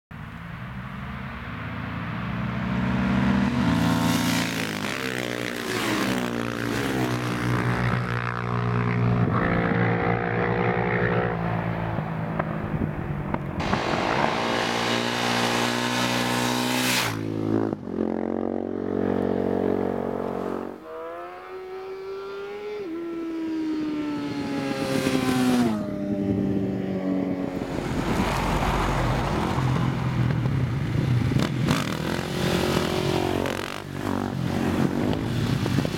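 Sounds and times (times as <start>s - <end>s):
motorcycle engines revving: 0.8s - 35.9s.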